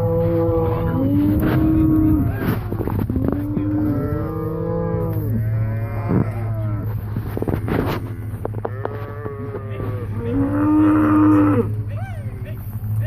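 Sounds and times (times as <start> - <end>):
cattle mooing: 0.0 - 12.4
steady low hum: 0.0 - 13.0.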